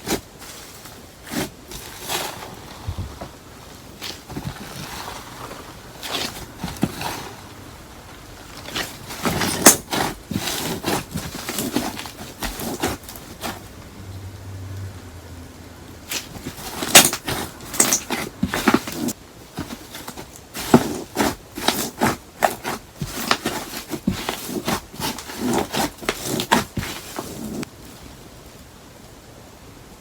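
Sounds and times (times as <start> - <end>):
sticky slime squelches: 0.0 - 13.9, 16.0 - 27.7.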